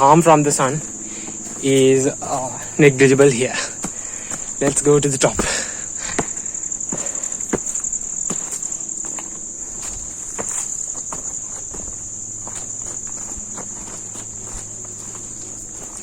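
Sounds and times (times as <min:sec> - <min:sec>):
footsteps on stone stairs: 0:00.0 - 0:16.0
high-pitched insect drone: 0:00.0 - 0:16.0.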